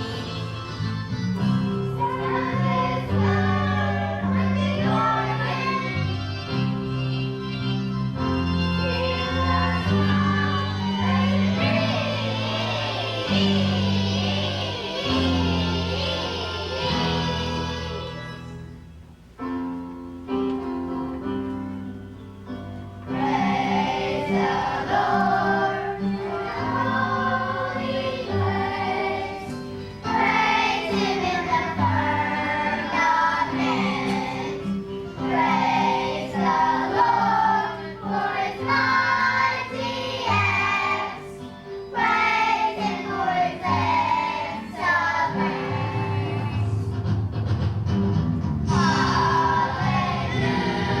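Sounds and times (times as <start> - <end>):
children's choir singing: 0.0 - 18.6, 23.0 - 47.0, 48.6 - 51.0
instrumental accompaniment: 0.0 - 51.0.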